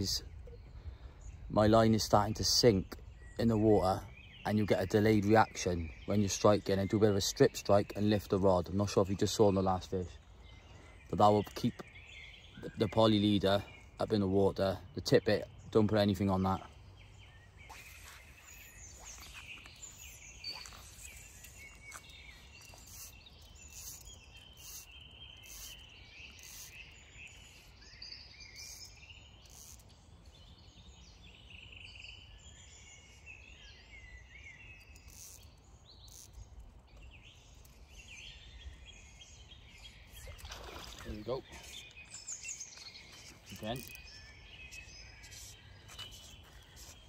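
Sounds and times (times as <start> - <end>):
birds singing and chirping: 0.0 - 47.0.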